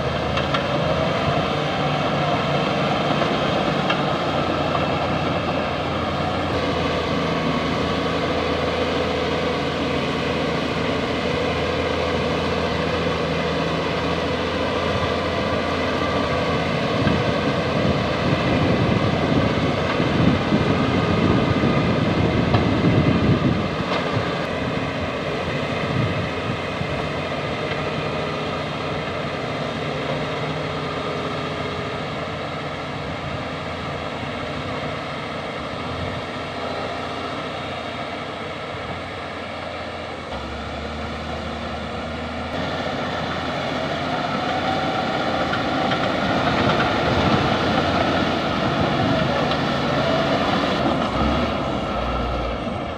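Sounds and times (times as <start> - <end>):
bulldozer diesel engine: 0.0 - 52.9.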